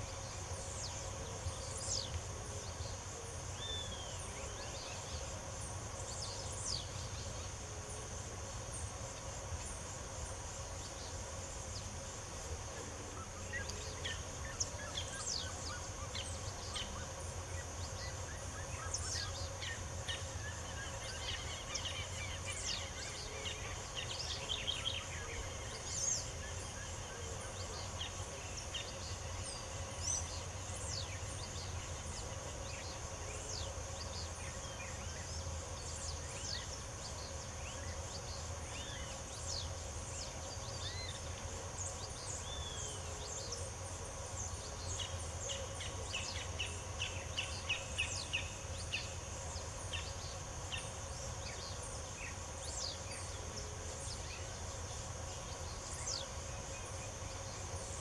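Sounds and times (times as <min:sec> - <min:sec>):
high insect buzz: 0:00.0 - 0:58.0.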